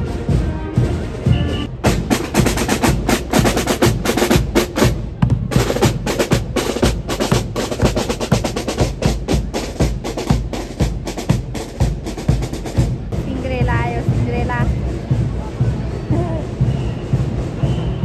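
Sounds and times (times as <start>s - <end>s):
percussion-heavy music: 0.0s - 18.0s.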